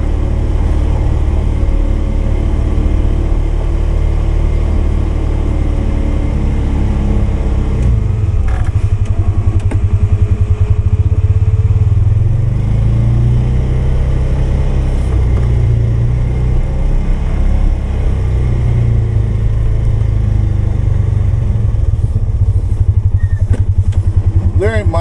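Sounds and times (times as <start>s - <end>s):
plow blade pushing snow: 0.0s - 24.9s
single-cylinder engine running: 0.0s - 25.0s.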